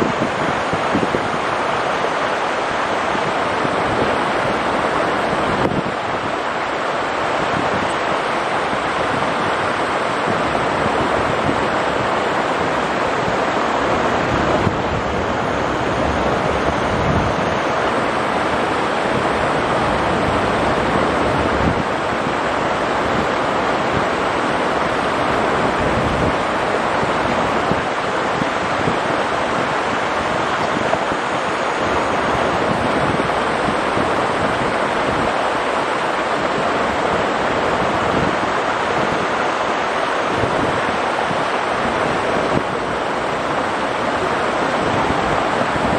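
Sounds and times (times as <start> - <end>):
stream rushing over stones: 0.0 - 45.9.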